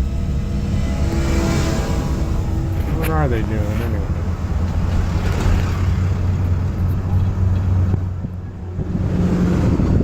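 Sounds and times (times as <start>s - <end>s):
road noise inside cabin: 0.0s - 10.0s
van engine rumble: 0.0s - 10.0s.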